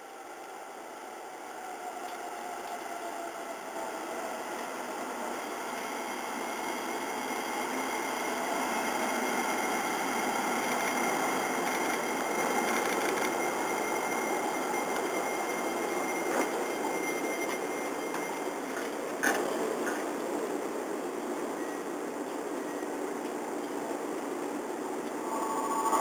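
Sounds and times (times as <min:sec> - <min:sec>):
electric train running noise: 0:00.0 - 0:26.0
thin high whine: 0:00.0 - 0:26.0.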